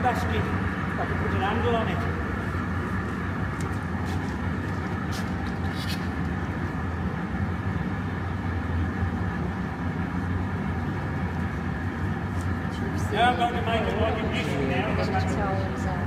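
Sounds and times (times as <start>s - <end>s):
gas furnace drone: 0.0s - 16.0s.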